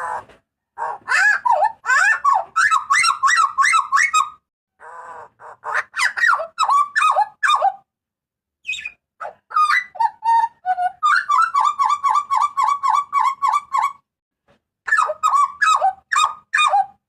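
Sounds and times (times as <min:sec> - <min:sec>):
butcherbird calling: 0:00.0 - 0:07.8, 0:08.6 - 0:14.0, 0:14.9 - 0:17.0.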